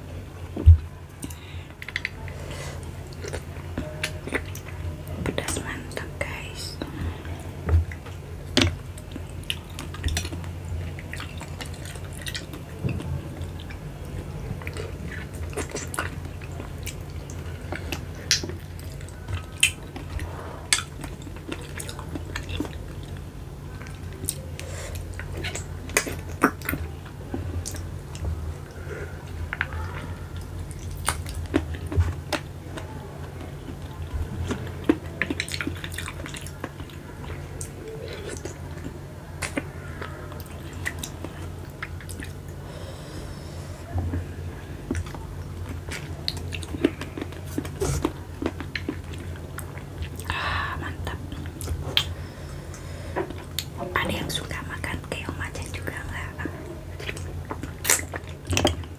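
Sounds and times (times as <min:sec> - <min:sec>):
steady low hum: 0:00.0 - 0:58.9
wet sucking and chewing: 0:07.7 - 0:53.8, 0:54.8 - 0:58.9.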